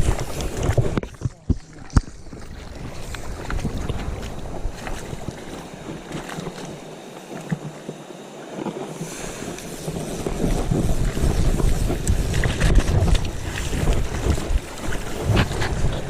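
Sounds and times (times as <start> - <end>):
flowing river water: 0.0 - 16.0
wind buffeting microphone: 0.0 - 16.0.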